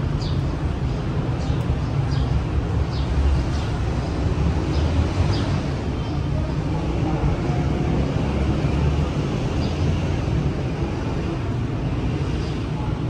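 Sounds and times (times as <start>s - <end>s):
low rumble of city traffic: 0.0s - 13.0s.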